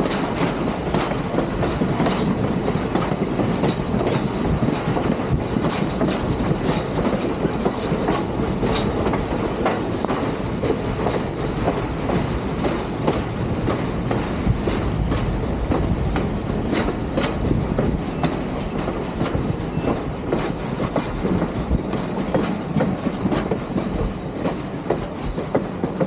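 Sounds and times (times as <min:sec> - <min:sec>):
train rumbling on track: 0:00.0 - 0:26.0
wheels clicking over rail joints: 0:00.0 - 0:26.0.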